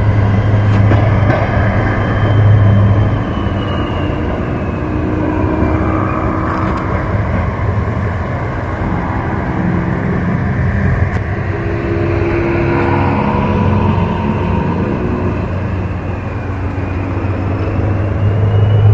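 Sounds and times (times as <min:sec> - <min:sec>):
locomotive engine rumbling: 0:00.0 - 0:18.9.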